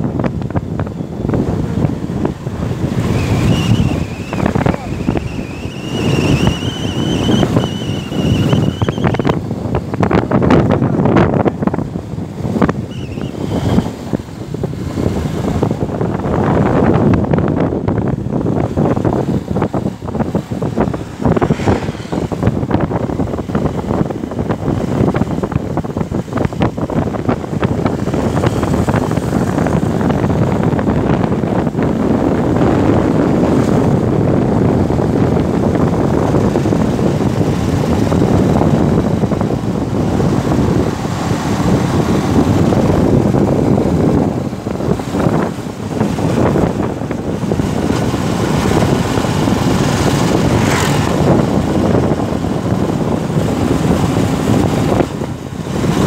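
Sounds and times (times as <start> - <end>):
motorbike running noise: 0.0 - 56.0
wind rushing over microphone: 0.0 - 56.0.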